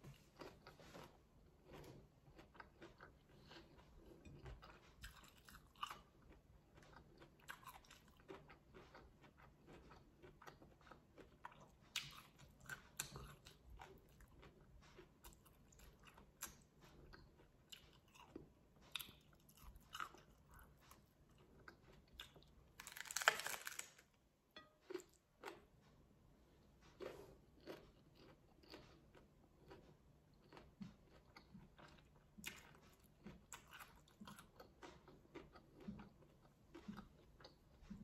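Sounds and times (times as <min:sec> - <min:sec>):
crunchy chewing: 0:00.0 - 0:25.7, 0:26.9 - 0:38.0.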